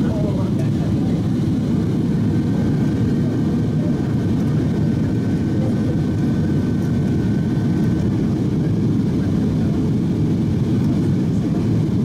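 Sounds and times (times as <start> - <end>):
airplane cabin roar: 0.0 - 12.0.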